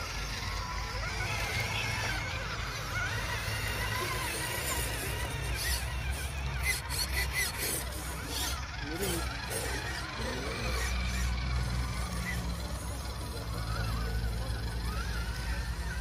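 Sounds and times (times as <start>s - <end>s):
small electric motors whining: 0.0s - 16.0s
trucks driving through water: 0.0s - 16.0s.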